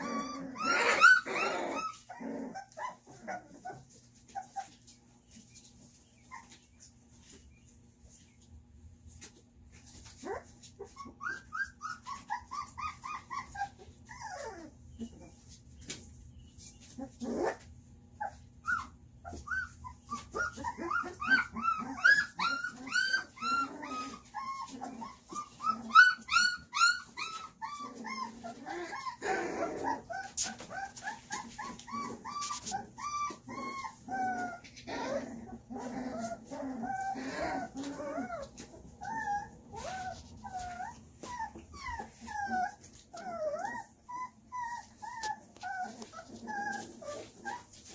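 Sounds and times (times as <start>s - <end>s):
puppies whining and yipping: 0.0s - 47.9s.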